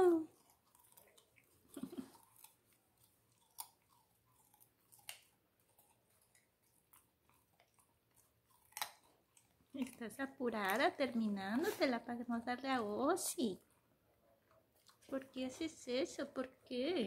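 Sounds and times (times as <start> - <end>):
puppy crunching a carrot: 0.0 - 17.0.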